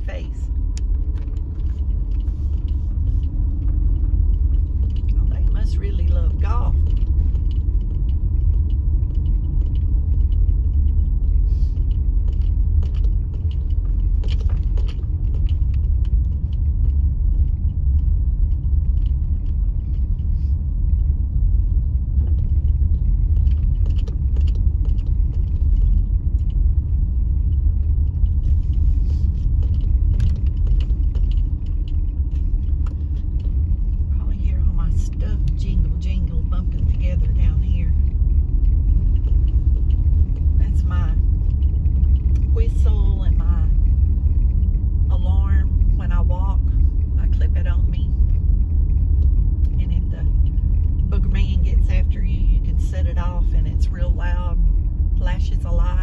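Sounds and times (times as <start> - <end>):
car road noise rumble: 0.0 - 56.0
small rattles and clicks: 0.1 - 53.1.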